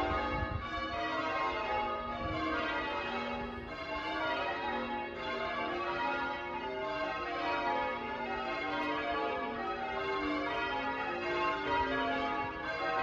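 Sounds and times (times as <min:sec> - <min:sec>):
church bells ringing changes: 0:00.0 - 0:13.0.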